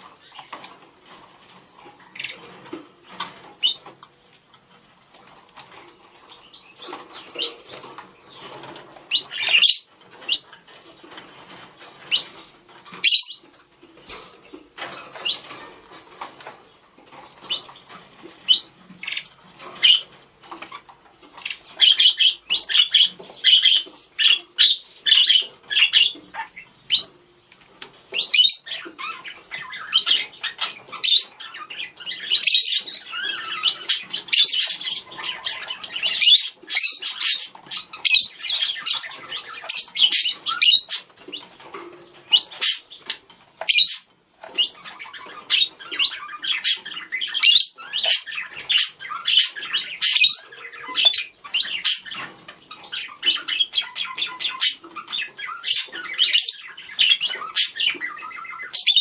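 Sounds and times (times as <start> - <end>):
budgerigars chirping: 2.1 - 4.0, 5.6 - 13.7, 14.8 - 16.6, 17.4 - 27.2, 28.1 - 59.0.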